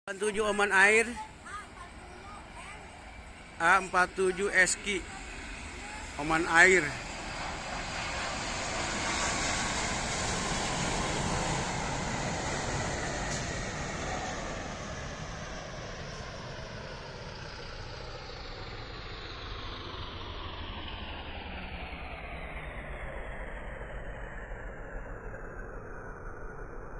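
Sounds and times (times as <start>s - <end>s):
jet engine whine: 0.1s - 26.9s
jet engines roaring past: 0.1s - 26.9s.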